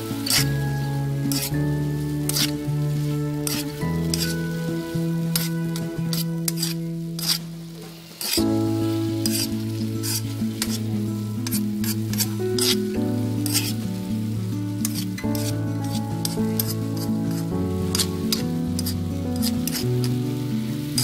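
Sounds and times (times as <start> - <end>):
spatula scraping pan: 0.0 - 8.5, 9.2 - 10.8, 11.4 - 13.8, 14.8 - 20.2
background music with held notes: 0.0 - 21.0
stir-fry sizzling in pan: 0.0 - 21.0.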